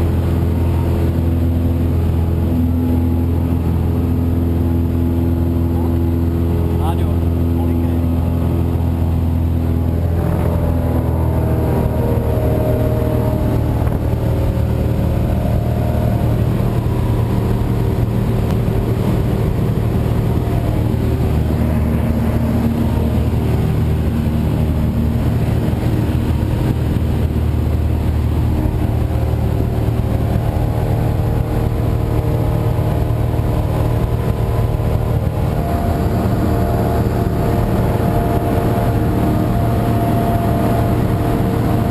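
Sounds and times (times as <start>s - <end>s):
airplane engine and propeller droning: 0.0s - 41.9s.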